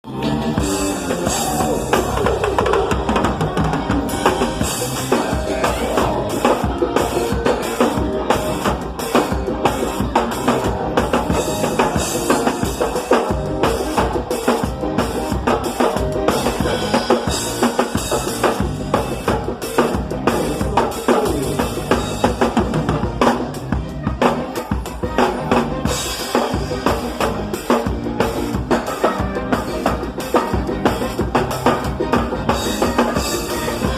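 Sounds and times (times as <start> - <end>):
live band playing: 0.0 - 33.9.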